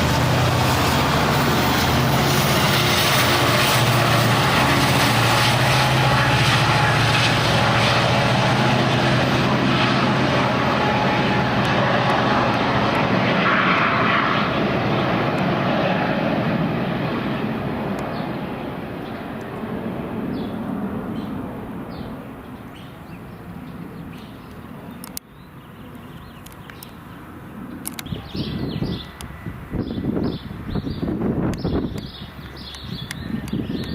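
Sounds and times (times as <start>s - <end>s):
turboprop plane flying past: 0.0s - 33.9s.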